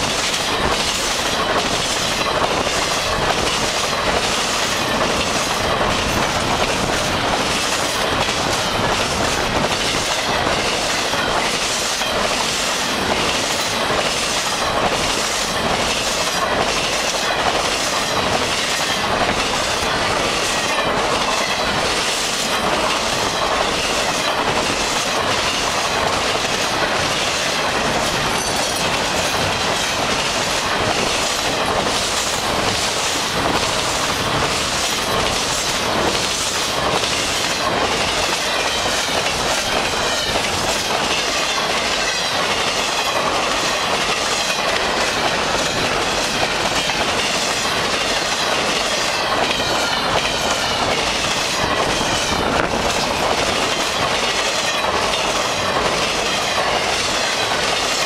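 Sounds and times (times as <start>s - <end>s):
steel wheels rumbling on rail: 0.0s - 58.0s
wheels clacking over rail joints: 0.0s - 58.0s.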